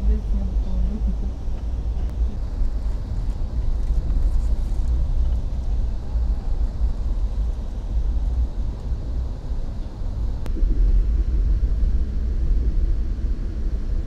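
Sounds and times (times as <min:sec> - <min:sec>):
train rumbling from inside: 0:00.0 - 0:14.0.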